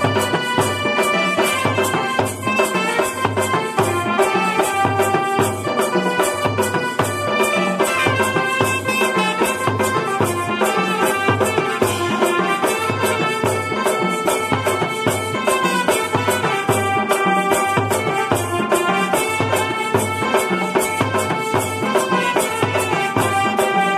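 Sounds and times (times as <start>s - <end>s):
drum kit beat: 0.0s - 23.9s.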